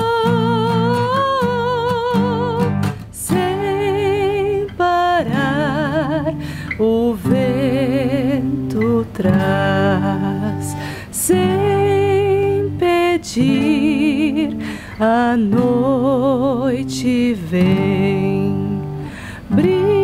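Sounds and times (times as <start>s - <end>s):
strummed acoustic guitar: 0.0s - 20.0s
woman singing with vibrato: 0.0s - 20.0s.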